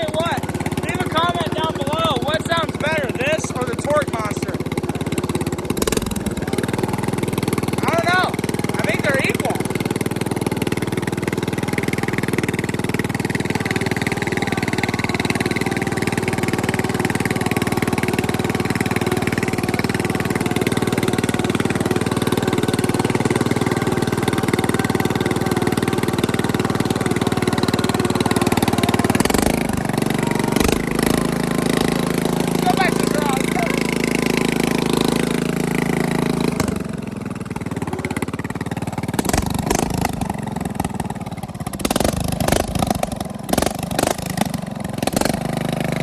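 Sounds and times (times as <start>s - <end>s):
riding mower engine running: 0.0s - 46.0s.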